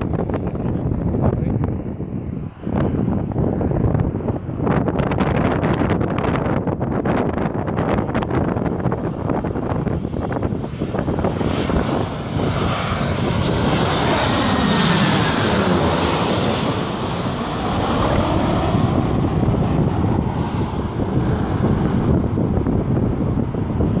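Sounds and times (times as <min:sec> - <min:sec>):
jet airliner passing overhead: 0:00.0 - 0:24.0
wind buffeting microphone: 0:00.0 - 0:24.0.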